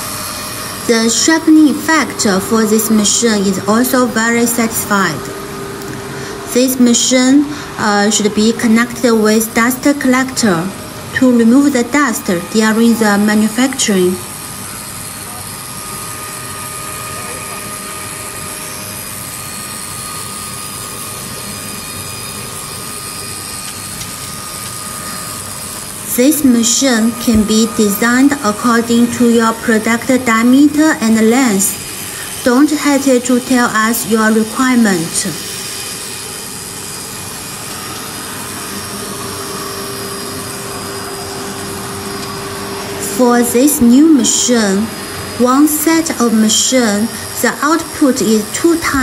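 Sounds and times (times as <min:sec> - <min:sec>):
dust collector fan rushing: 0:00.0 - 0:49.0
skewer sharpening machine whirring: 0:00.0 - 0:49.0.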